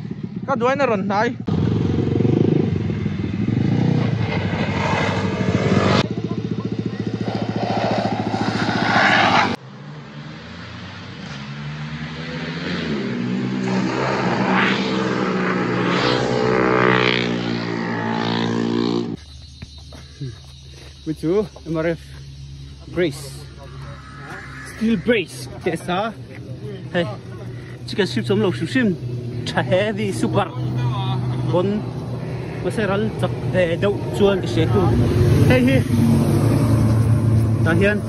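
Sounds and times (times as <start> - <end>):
single motorcycle approaching: 0.0 - 20.7, 21.6 - 38.0
motorcycle engines running hard: 0.0 - 38.0.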